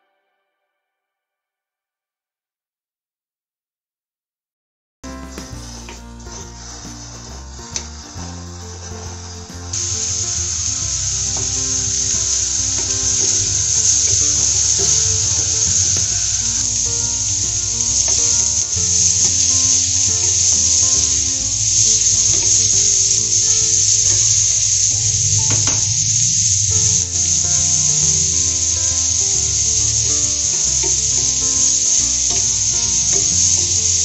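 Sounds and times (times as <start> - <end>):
onion sizzling in a frying pan: 5.1 - 34.0.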